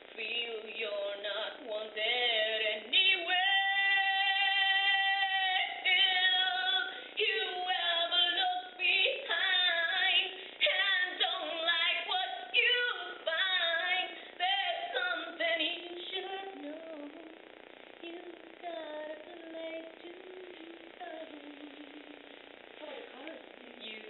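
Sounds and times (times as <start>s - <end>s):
woman singing unaccompanied: 0.2s - 17.4s, 18.0s - 24.0s.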